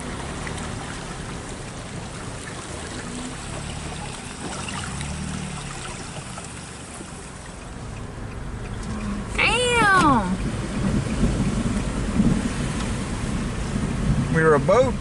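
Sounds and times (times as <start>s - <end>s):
car engine running low: 0.0s - 15.0s
water swishing and splashing: 0.0s - 15.0s.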